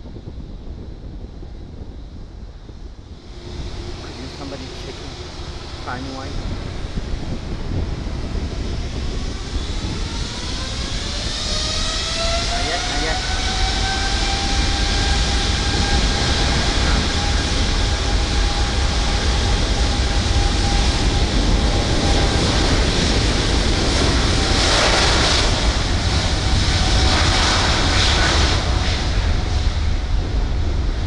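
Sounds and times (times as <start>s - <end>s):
jet engines with high whine: 0.0s - 31.0s
loud rush of noise: 2.2s - 31.0s.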